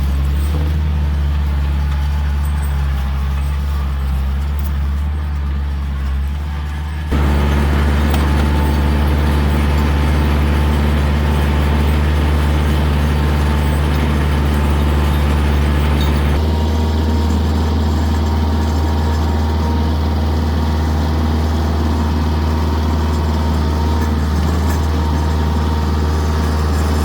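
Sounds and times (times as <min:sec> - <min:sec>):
tractor diesel engine droning: 0:00.0 - 0:27.0.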